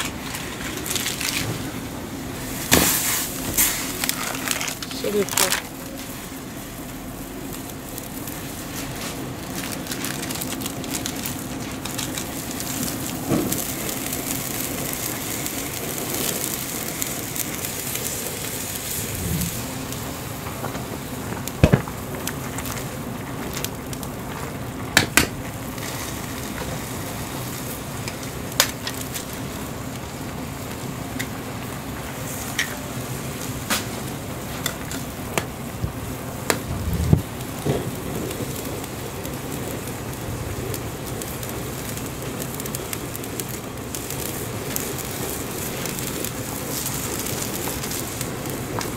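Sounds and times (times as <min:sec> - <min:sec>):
broth boiling and bubbling: 0:00.0 - 0:48.9.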